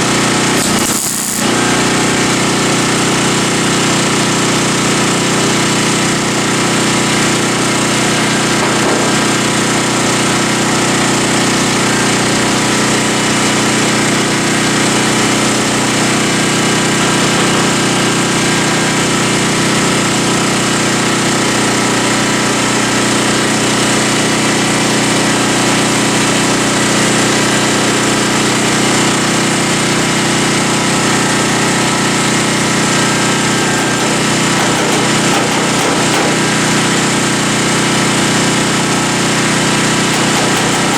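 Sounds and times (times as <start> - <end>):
power tool running: 0.0 - 40.9.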